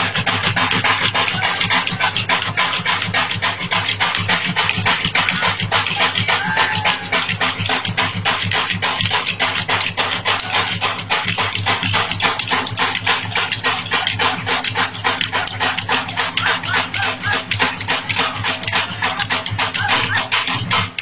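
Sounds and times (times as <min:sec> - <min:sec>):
drums beating fast: 0:00.0 - 0:21.0.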